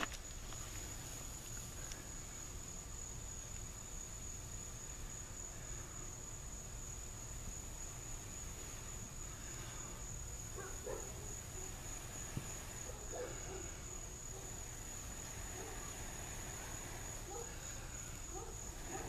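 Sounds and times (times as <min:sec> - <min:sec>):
insect trilling: 0:00.0 - 0:19.0.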